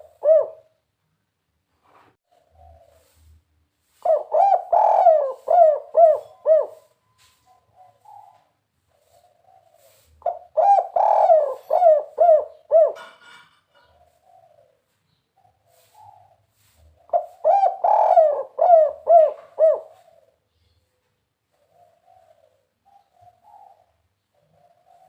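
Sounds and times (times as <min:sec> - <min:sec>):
dove rolling coos: 0:00.0 - 0:00.8, 0:02.3 - 0:20.4, 0:21.5 - 0:25.0
soft dove cooing: 0:00.0 - 0:00.8, 0:02.2 - 0:25.0.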